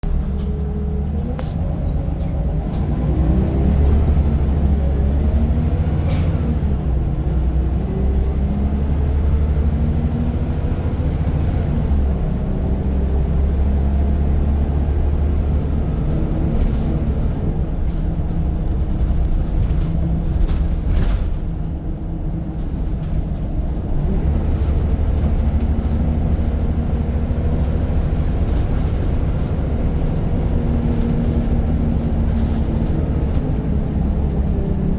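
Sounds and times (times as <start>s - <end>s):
bus engine pulling hard: 0.0s - 34.9s.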